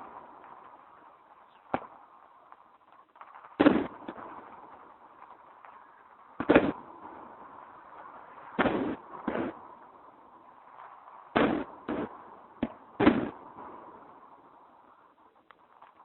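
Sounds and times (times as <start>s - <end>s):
fireworks exploding: 0.0s - 16.0s.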